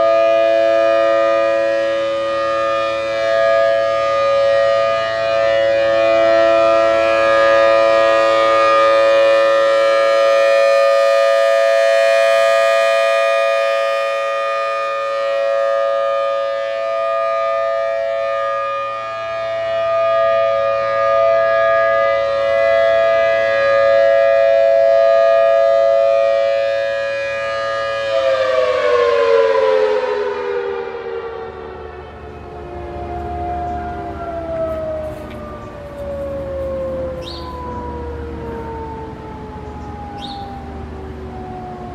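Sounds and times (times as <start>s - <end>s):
civil defense siren: 0.0s - 41.9s.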